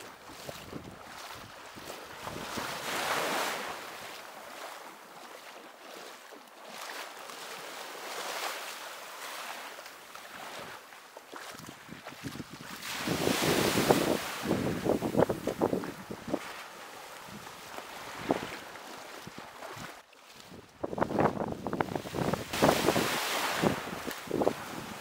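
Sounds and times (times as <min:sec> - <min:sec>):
sea waves washing onto beach: 0:00.0 - 0:25.0.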